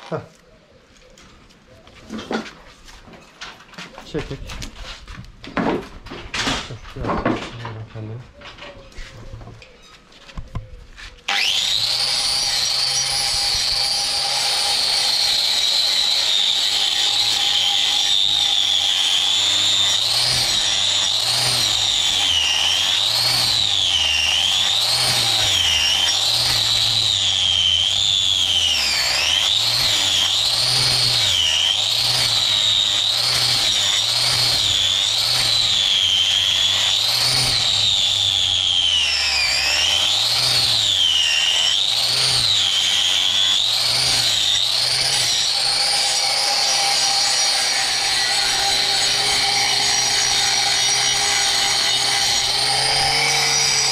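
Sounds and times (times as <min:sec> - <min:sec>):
grinder whining on hoof: 0:06.6 - 0:53.9.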